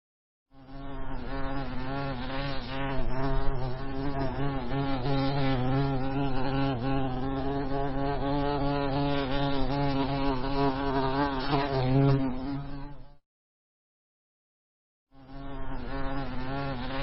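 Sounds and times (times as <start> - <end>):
honey bees buzzing: 0.6 - 13.0, 15.2 - 17.0.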